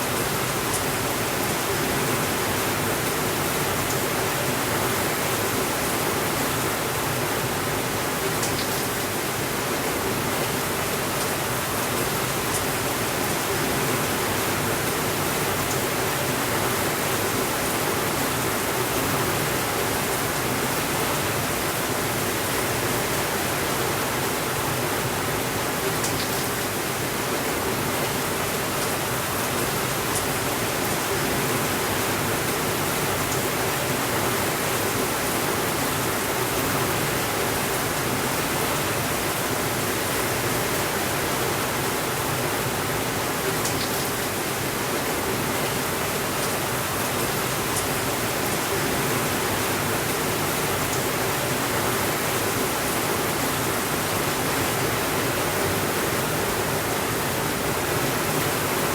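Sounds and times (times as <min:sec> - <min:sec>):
steady rainfall: 0:00.0 - 0:58.9.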